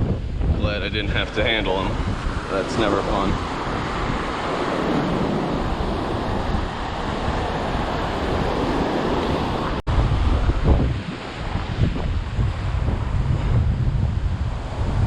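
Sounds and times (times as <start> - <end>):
ocean surf washing onto beach: 0.0 - 15.0
wind buffeting microphone: 0.0 - 15.0.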